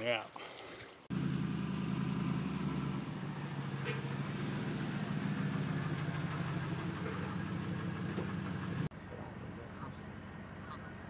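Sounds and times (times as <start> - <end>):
pickup truck engine idling: 1.1 - 11.0.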